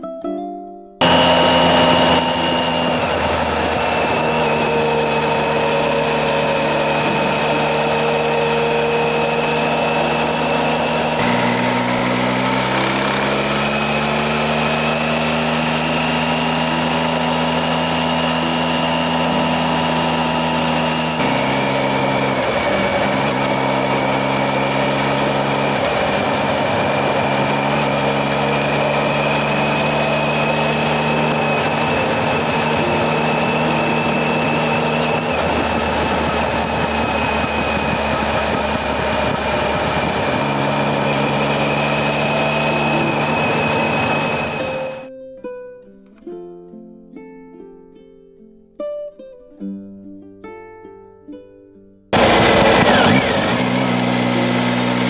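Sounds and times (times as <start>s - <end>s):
motorcycle engine cruising: 1.0s - 45.1s, 52.1s - 55.0s
wind and road noise: 1.0s - 45.1s, 52.2s - 55.0s.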